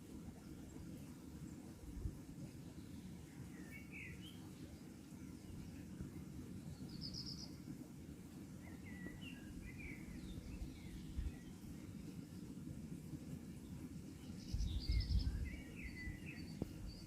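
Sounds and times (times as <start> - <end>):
low background rumble: 0.0 - 17.0
small birds chirping: 0.1 - 17.0.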